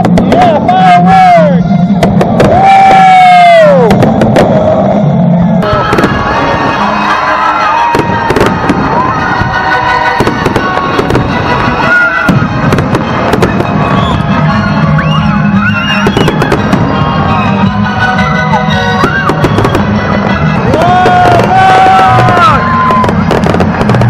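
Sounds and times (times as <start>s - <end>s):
music playing: 0.0s - 24.0s.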